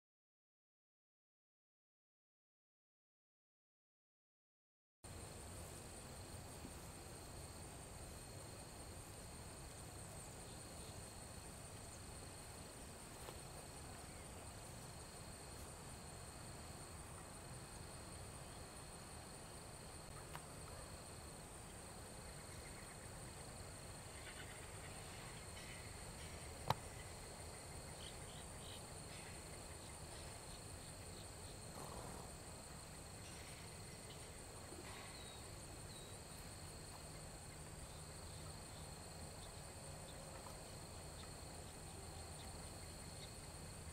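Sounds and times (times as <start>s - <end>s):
high-pitched insect chorus: 5.2s - 43.9s.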